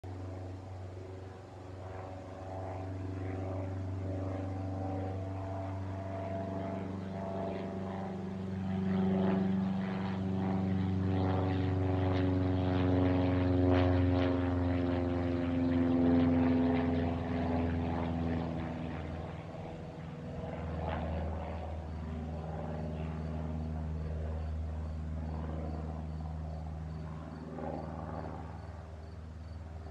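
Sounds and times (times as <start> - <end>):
propeller plane flying over: 0.0 - 29.9.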